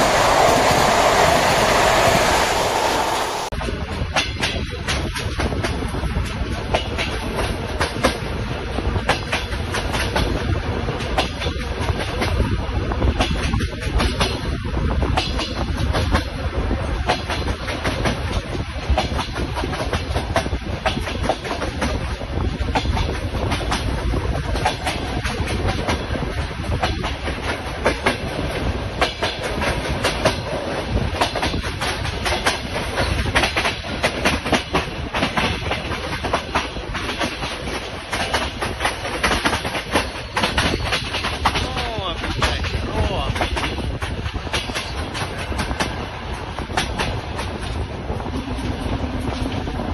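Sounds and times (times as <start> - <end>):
train low rumble: 0.0 - 49.9
train wheels clicking: 0.0 - 49.9.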